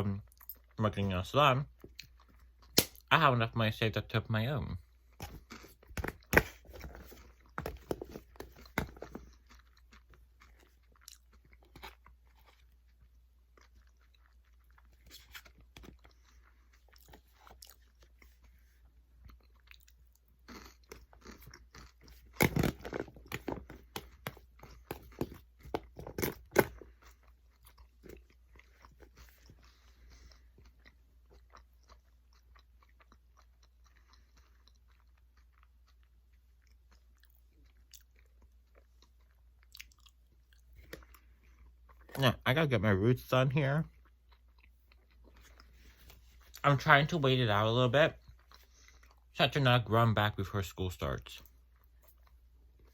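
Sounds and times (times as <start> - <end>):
person chewing crunchy food: 4.8 - 42.4, 43.2 - 49.3, 51.4 - 52.9.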